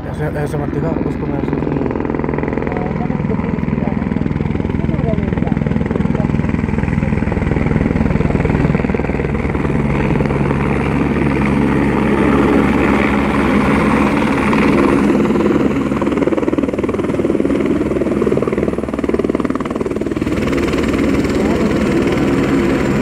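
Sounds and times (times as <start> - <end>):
helicopter rotor chopping: 0.0 - 23.0
turbine whine: 0.0 - 23.0.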